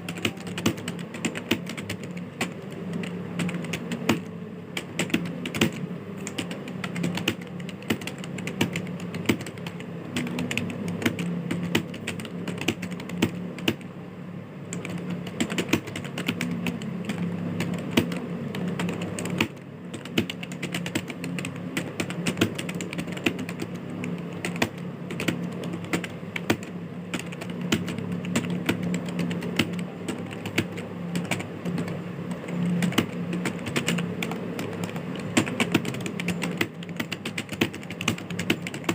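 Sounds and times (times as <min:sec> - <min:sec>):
fast typing on keyboard: 0:00.0 - 0:13.9, 0:14.7 - 0:38.9.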